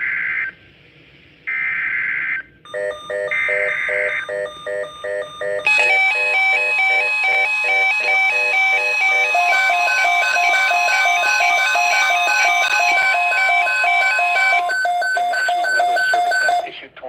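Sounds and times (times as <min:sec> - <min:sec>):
electronic alarm beeps: 0:02.7 - 0:16.7.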